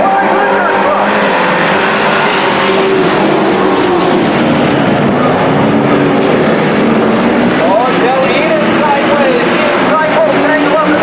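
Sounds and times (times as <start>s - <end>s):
pickup truck engines racing: 0.0s - 11.0s.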